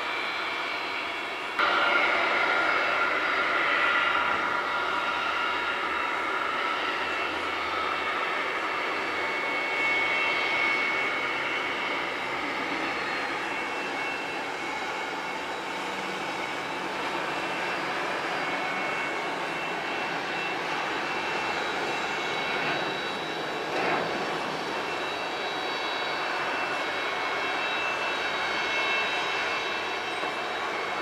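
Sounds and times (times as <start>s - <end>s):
jet engines running with high whine: 0.0s - 31.0s.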